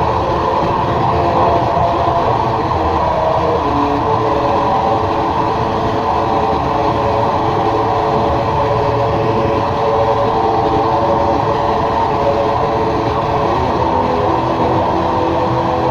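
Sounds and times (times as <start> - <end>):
experimental drone music: 0.0 - 15.9.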